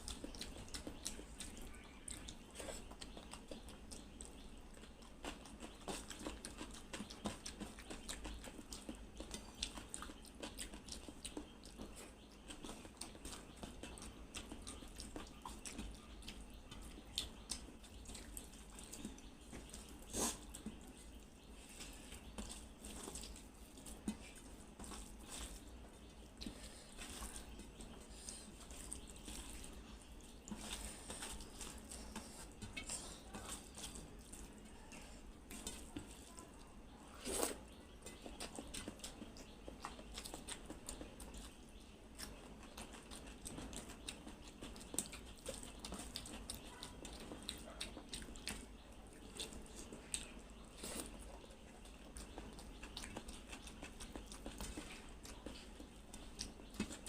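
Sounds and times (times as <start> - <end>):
wet chewing and lip smacking: 0.0 - 57.0.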